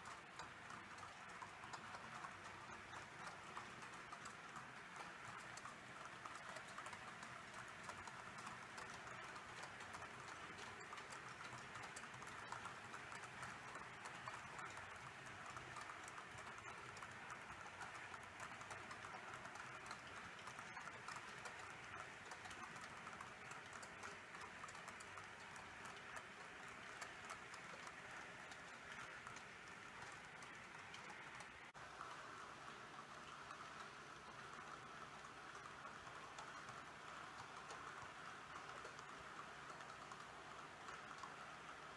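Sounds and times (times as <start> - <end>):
model train wheels clicking: 0.0 - 41.9.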